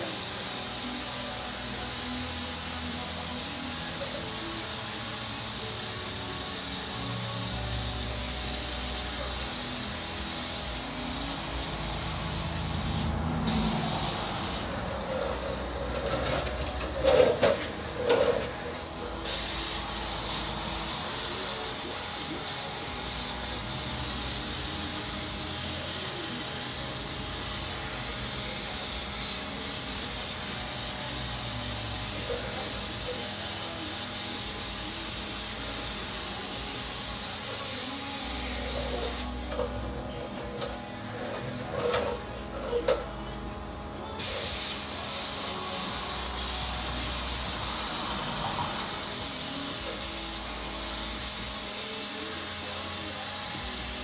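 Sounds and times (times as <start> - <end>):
spray gun hissing: 0.0 - 54.0.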